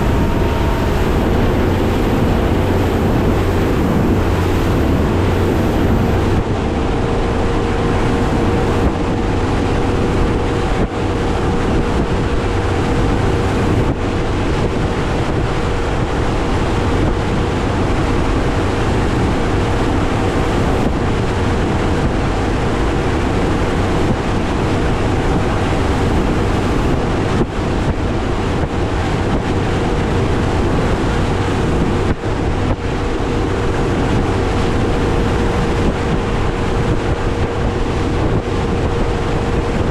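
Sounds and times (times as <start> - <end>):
outboard motor drone: 0.0 - 39.9
water rushing past hull: 0.0 - 39.9
wind on microphone: 0.0 - 39.9.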